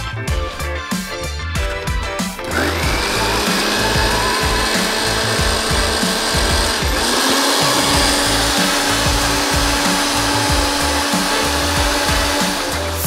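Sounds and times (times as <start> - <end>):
blender mixing liquid: 2.4 - 13.0.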